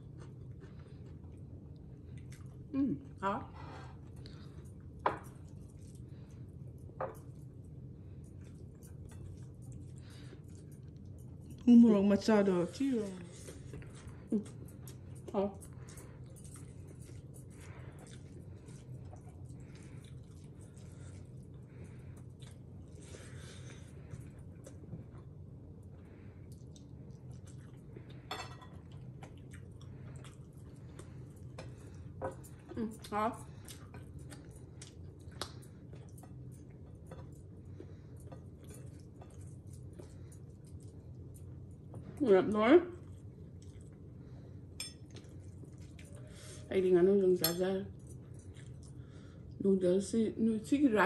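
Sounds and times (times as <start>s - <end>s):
chewing: 0.0s - 3.2s, 4.0s - 42.2s, 43.0s - 46.7s, 47.9s - 49.6s
steady low hum: 0.0s - 51.0s.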